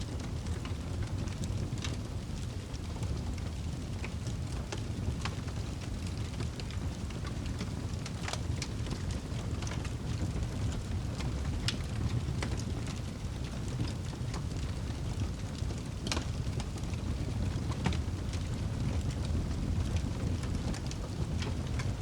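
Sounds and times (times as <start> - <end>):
low fire rumble: 0.0 - 22.0
wood fire crackling: 0.0 - 22.0.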